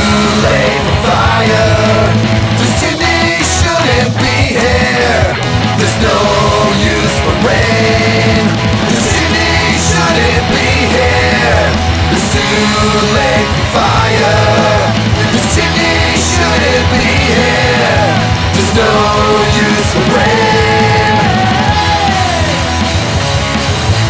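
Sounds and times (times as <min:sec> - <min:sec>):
bending guitar lead line: 0:00.0 - 0:24.0
punk rock band playing: 0:00.0 - 0:24.0.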